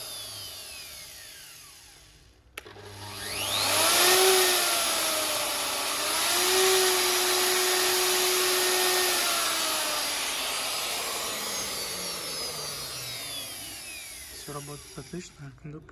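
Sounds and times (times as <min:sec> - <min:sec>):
electric router whining: 0:00.0 - 0:15.5.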